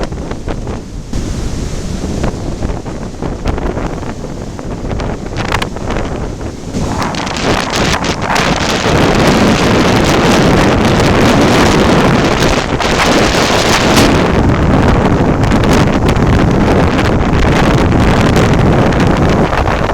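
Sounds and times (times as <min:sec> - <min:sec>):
strong wind roaring on microphone: 0:00.0 - 0:19.9.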